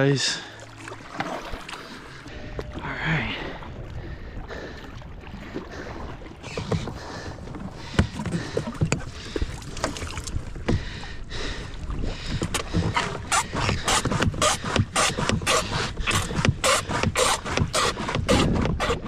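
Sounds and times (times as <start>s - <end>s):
paddle strokes splashing in water: 0.1s - 2.8s, 3.5s - 19.0s.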